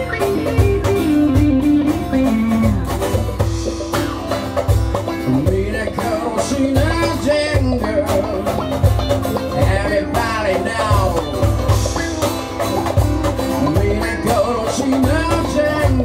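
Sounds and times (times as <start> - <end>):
acoustic guitar: 0.0 - 16.0
cajon beat: 0.0 - 16.0
electric guitar: 0.0 - 16.0.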